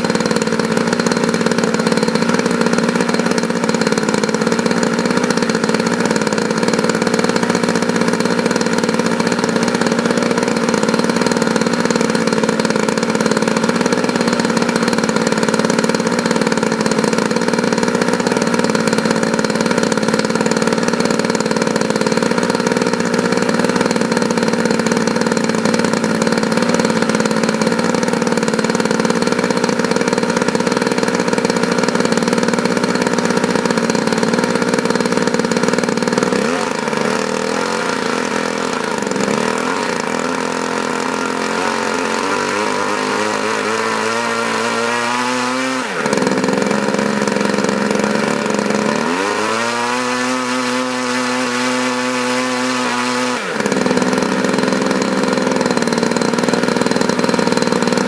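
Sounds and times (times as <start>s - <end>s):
two-stroke model engine revving: 0.0s - 58.0s.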